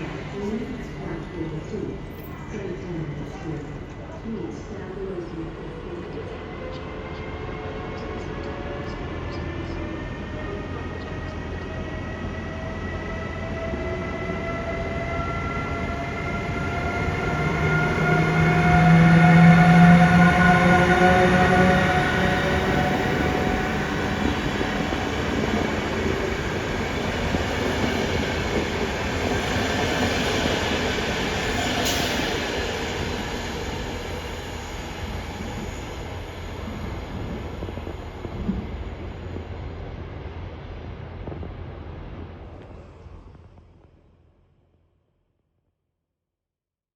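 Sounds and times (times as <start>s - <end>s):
train rumbling on rails: 0.0s - 44.3s.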